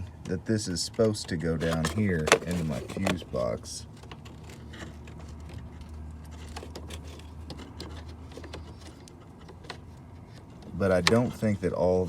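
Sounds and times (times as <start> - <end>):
wires and plastic connectors rattling: 0.9 - 11.5.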